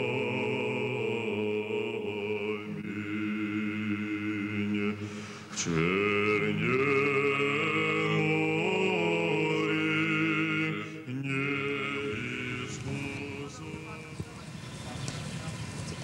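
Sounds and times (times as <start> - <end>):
unaccompanied choir chanting: 0.0 - 15.0.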